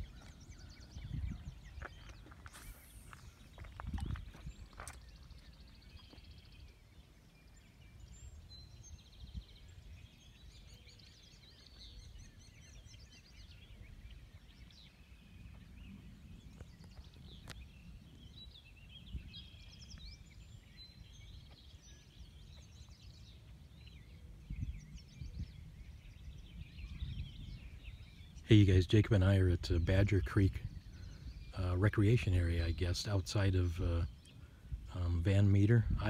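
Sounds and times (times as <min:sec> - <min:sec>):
birds chirping and trilling: 0:00.0 - 0:36.0.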